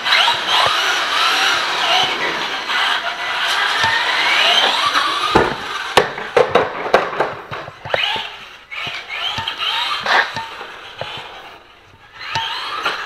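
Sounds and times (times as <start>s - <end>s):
electric motor whining: 0.0s - 6.4s, 7.7s - 13.0s
toy truck bouncing and clattering: 0.0s - 13.0s.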